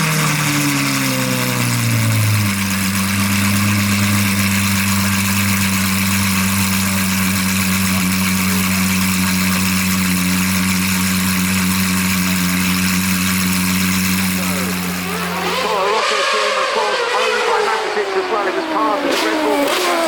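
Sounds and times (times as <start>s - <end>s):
race car engine idling: 0.0s - 20.0s.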